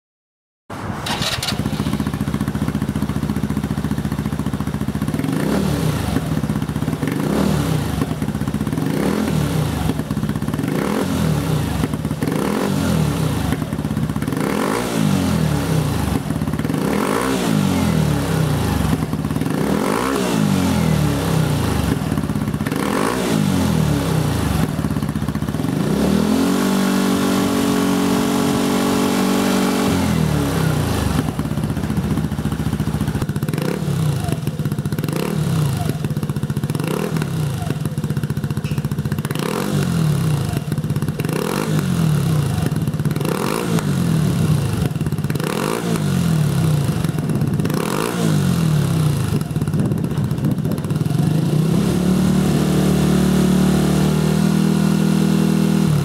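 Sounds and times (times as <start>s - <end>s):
scooter engine revving: 1.0s - 56.0s.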